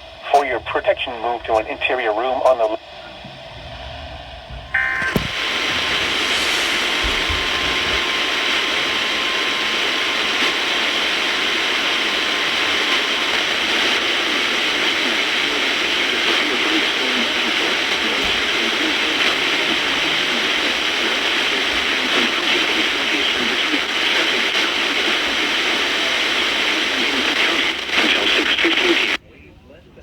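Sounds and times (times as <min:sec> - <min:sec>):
radio static hiss: 0:00.0 - 0:29.2.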